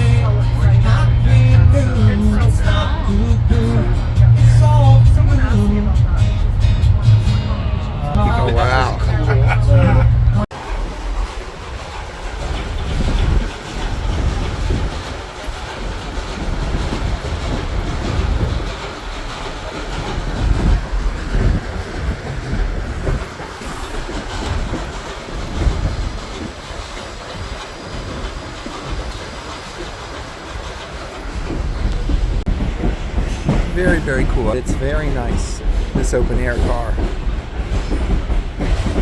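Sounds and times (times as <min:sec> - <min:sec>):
steady train rumble: 0:00.0 - 0:39.0
train wheels clacking on rails: 0:00.0 - 0:39.0.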